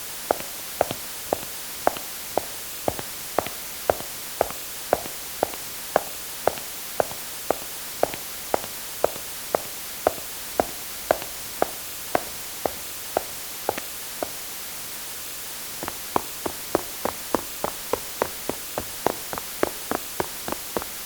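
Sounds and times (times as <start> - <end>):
footsteps walking: 0.0 - 14.5, 15.7 - 21.0.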